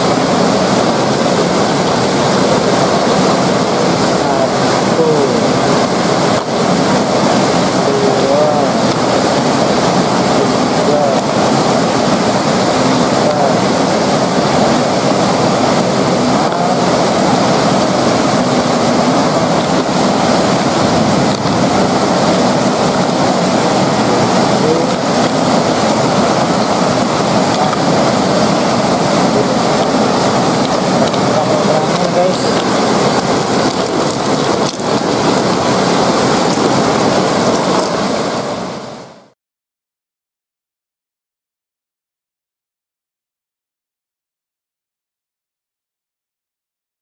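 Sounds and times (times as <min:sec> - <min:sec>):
heavy rain on paving stones: 0:00.0 - 0:39.3.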